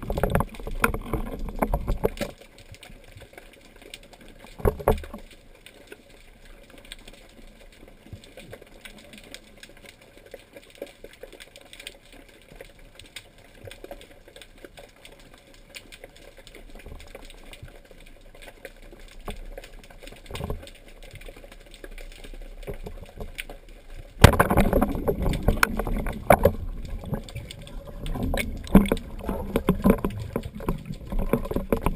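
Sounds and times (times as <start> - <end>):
crackle of small underwater clicks: 0.0 - 31.9.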